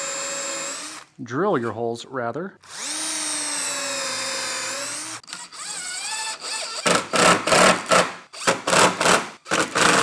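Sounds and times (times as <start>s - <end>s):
screws being driven: 0.0s - 1.1s, 2.7s - 10.0s.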